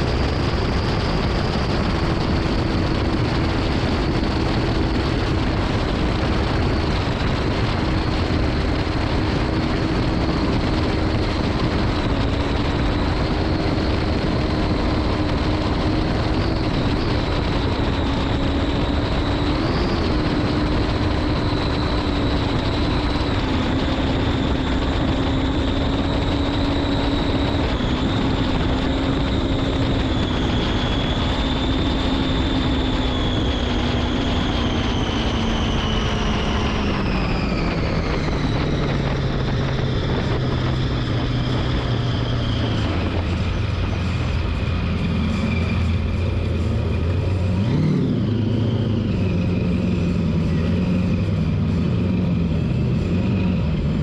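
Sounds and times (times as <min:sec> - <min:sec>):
speedboat engine running: 0:00.0 - 0:54.0
wind: 0:00.0 - 0:54.0.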